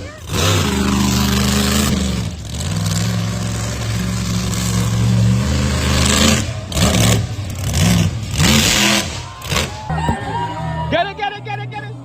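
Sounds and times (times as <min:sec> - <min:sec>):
monster truck engine running: 0:00.0 - 0:10.5.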